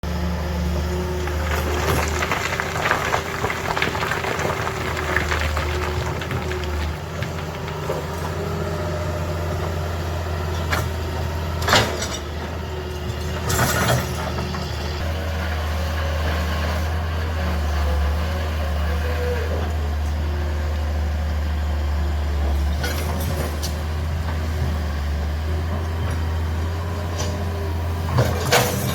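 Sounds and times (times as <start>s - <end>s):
diesel machinery engine running: 0.0s - 28.9s.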